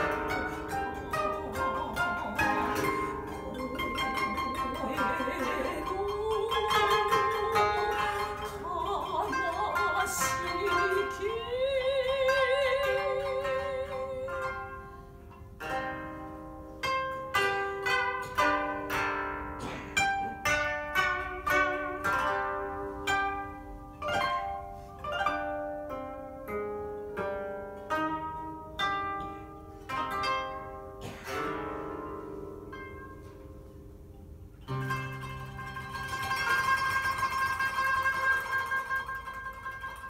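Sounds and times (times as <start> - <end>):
koto duet plucked notes: 0.0 - 40.0.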